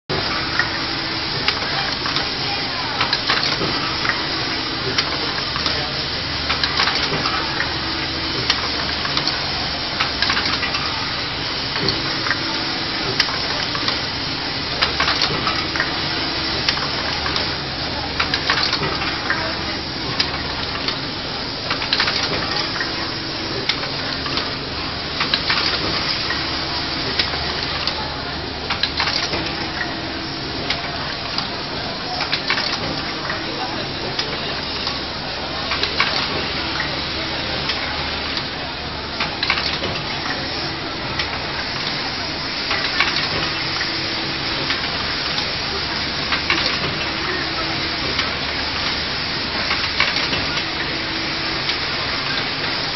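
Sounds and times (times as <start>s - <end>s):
low machine hum: 0.1s - 52.9s
machine clicks and clacks: 0.1s - 52.9s
machine steady hiss: 0.1s - 52.9s.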